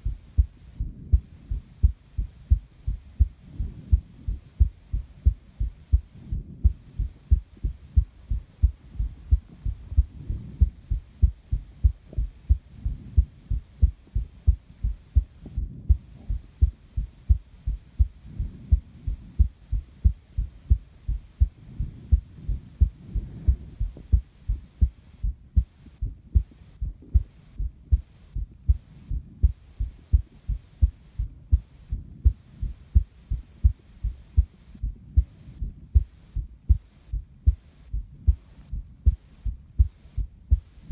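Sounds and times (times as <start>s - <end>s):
heartbeat thumps: 0.0s - 40.9s
soft breathing: 0.0s - 40.9s.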